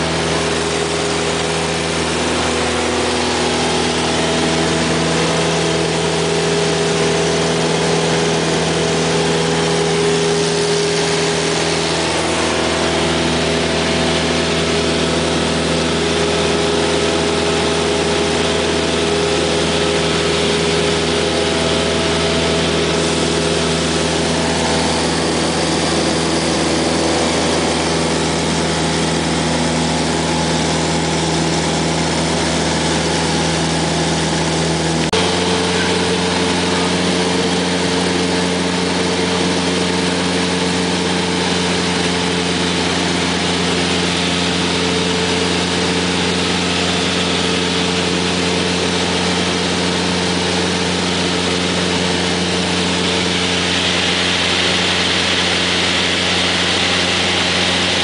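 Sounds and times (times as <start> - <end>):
airplane engine drone in cabin: 0.0 - 58.0.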